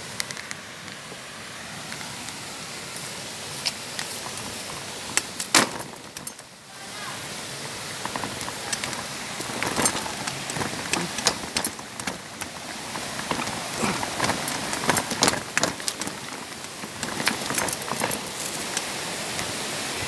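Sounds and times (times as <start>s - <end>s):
falling water rushing: 0.0s - 20.0s
footsteps on gravelly trail: 1.8s - 6.5s, 7.4s - 19.7s.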